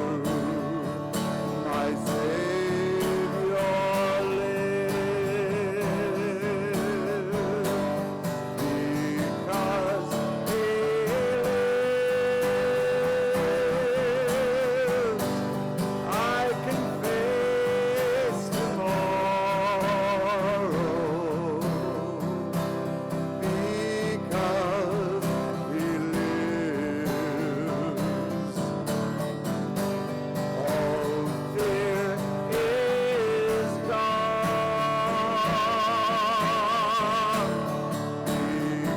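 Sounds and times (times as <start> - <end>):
person singing with vibrato: 0.0 - 29.1, 30.0 - 38.9.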